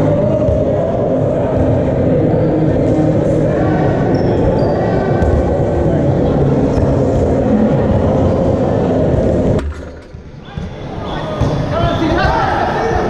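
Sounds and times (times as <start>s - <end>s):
crowd talking and shouting: 0.0s - 13.0s.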